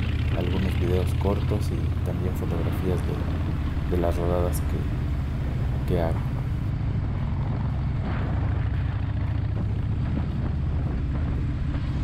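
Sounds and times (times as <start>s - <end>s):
motorcycle engine rumbling: 0.0s - 12.0s
wind and road noise: 0.0s - 12.0s.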